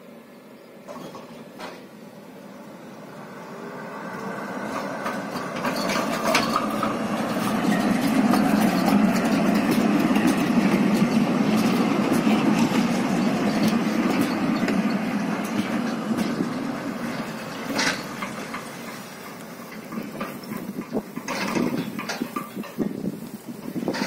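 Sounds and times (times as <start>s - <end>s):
tram wheels rumbling on rail: 0.0s - 24.0s.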